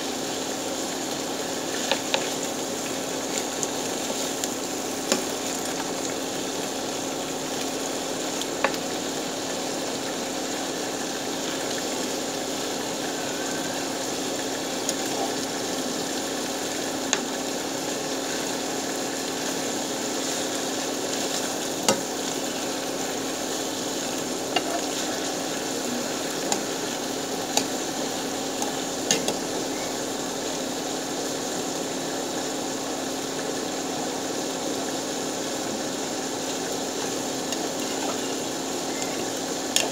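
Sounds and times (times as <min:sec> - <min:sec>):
fish sizzling in oil: 0:00.0 - 0:39.9.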